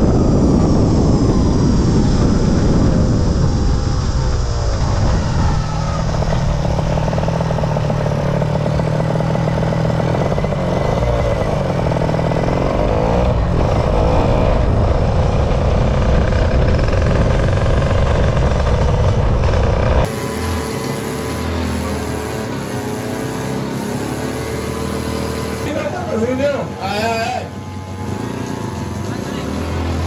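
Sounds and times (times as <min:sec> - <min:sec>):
wind rushing noise: 0:00.0 - 0:25.8
motorcycle engine revving high: 0:00.0 - 0:30.0.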